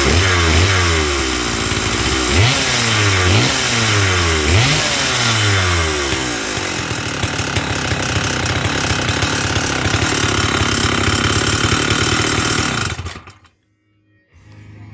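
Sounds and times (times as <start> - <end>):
chainsaw engine idling rattly: 0.0 - 13.5.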